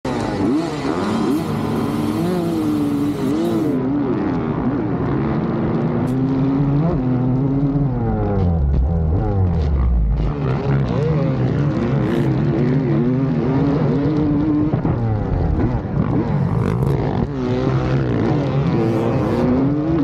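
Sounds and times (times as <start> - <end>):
motocross bike engines revving: 0.1 - 20.0.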